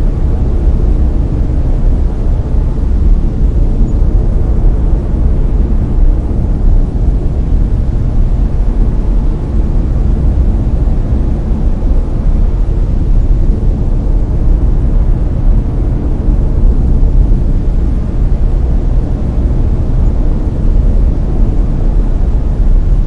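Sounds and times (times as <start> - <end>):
deep rumbling brown noise: 0.0 - 23.0.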